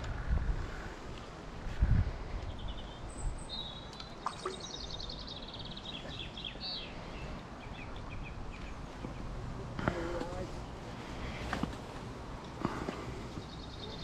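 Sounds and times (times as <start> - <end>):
songbird singing: 2.3 - 14.0.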